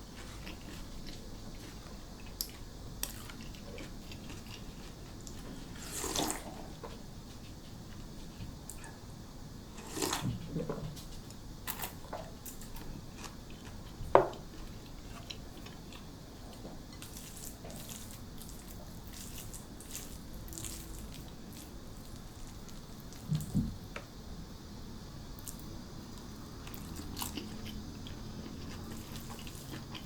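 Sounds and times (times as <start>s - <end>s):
chewing and crunching food: 0.1s - 9.0s, 11.2s - 23.6s, 25.4s - 30.0s.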